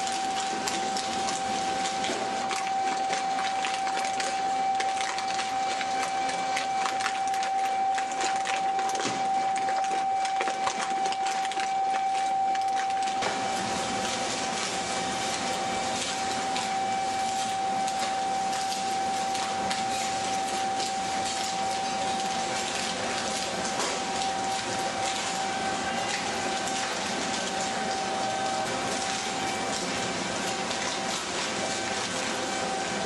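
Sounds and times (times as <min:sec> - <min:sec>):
machine high hum: 0:00.0 - 0:33.0
dense crackling noise: 0:00.1 - 0:30.1.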